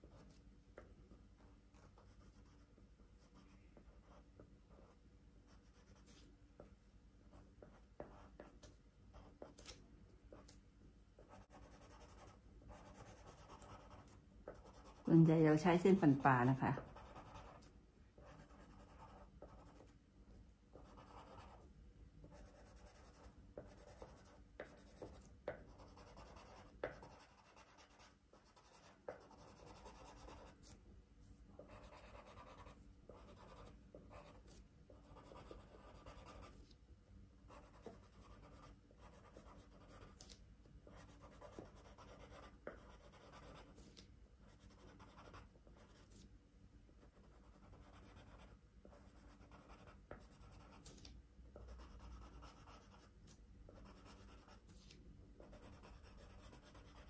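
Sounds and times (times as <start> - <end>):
pencil scratching on paper: 0.0 - 0.4, 1.7 - 9.7, 11.2 - 19.9, 20.8 - 21.6, 22.2 - 30.8, 31.6 - 36.7, 37.5 - 46.2, 47.0 - 57.0.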